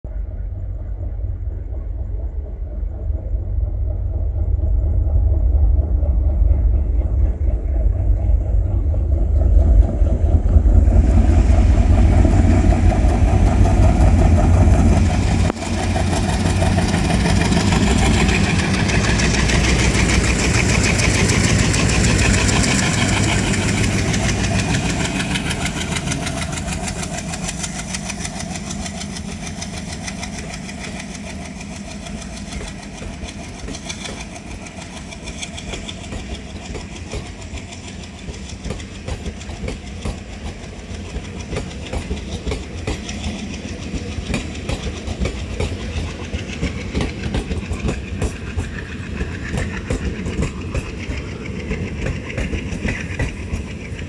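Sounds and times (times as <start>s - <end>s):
train rolling past: 0.0s - 54.0s
diesel locomotive engines chugging: 0.1s - 54.0s.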